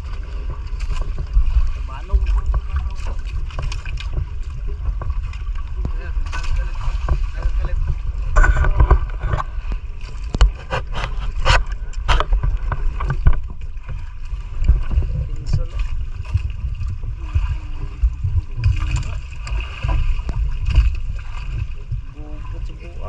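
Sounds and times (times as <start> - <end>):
water against boat: 0.0 - 23.0
wind: 0.0 - 23.0.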